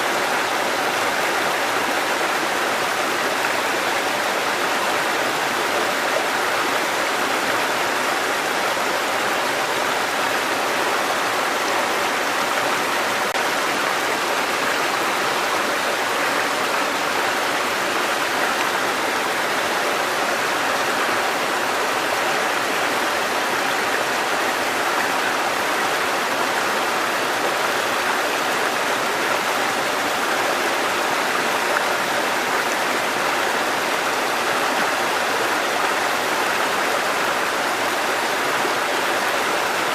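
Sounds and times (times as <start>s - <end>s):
water cascading over rocks: 0.0s - 39.9s.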